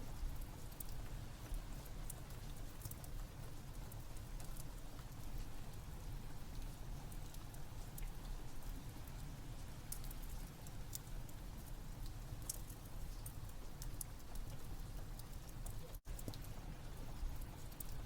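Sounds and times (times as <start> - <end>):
rain hiss: 0.0 - 18.0
wood fire crackling: 0.0 - 18.0.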